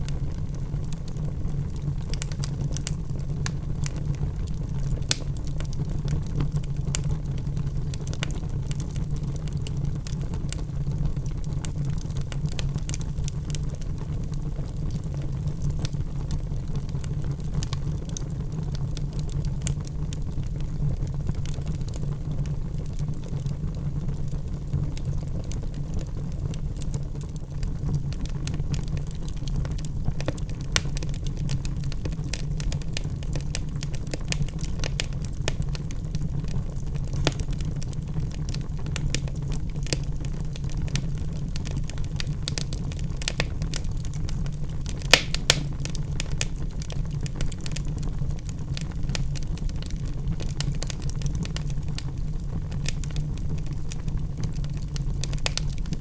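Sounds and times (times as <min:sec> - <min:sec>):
fire crackling and popping: 0:00.0 - 0:56.0
fire rumbling: 0:00.0 - 0:56.0.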